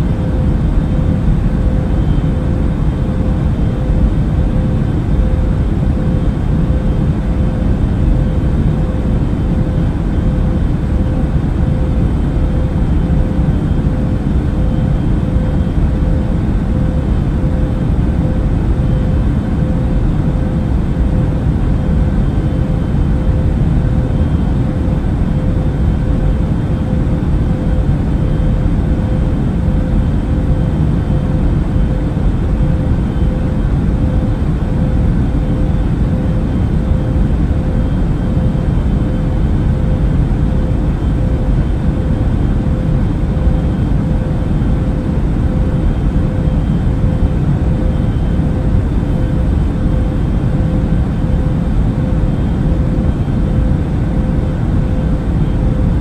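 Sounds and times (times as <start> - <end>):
airliner cabin engine drone: 0.0 - 56.0
faint steady hum: 0.0 - 56.0.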